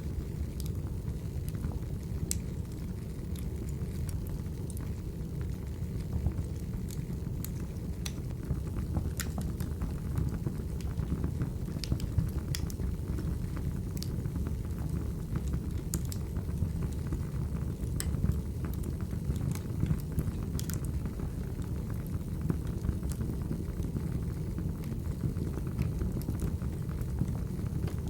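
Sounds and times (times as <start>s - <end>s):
fire low rumble: 0.0s - 28.0s
fire pops and crackles: 0.0s - 28.0s.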